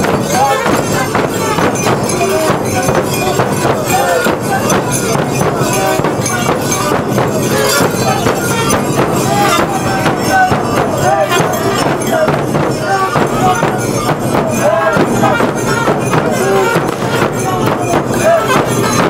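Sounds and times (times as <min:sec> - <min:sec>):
bass drums beating: 0:00.0 - 0:19.0
bells jingling: 0:00.0 - 0:19.0
voices shouting: 0:00.0 - 0:19.0.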